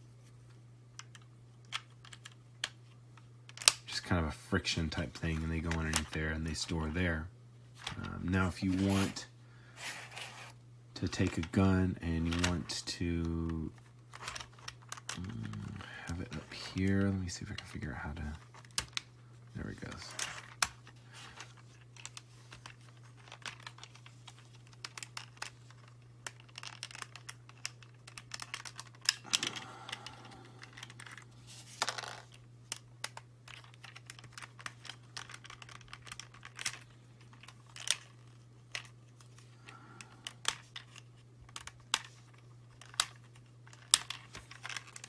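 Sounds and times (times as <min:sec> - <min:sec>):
steady low hum: 0:00.0 - 0:45.0
plastic parts clicking and rattling: 0:00.4 - 0:03.9, 0:04.9 - 0:06.9, 0:09.8 - 0:45.0.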